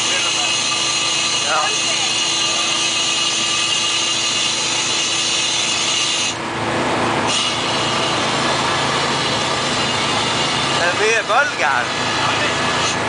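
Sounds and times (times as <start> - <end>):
hovercraft engine and fans droning: 0.0 - 13.0.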